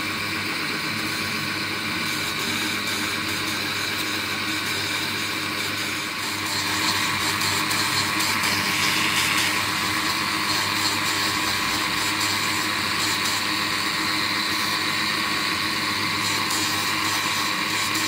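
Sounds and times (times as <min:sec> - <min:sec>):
grinding wheel grinding steel: 0:00.0 - 0:18.0
steady motor hum: 0:00.0 - 0:18.0.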